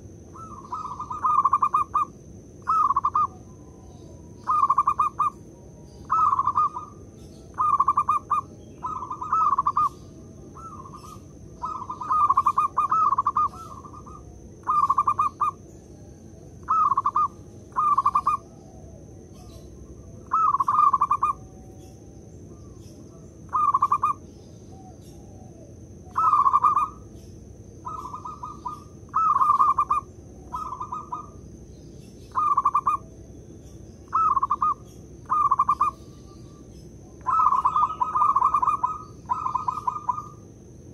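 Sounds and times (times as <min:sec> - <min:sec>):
dove cooing: 0:00.0 - 0:27.1, 0:27.8 - 0:31.5, 0:32.2 - 0:33.3, 0:34.1 - 0:40.5.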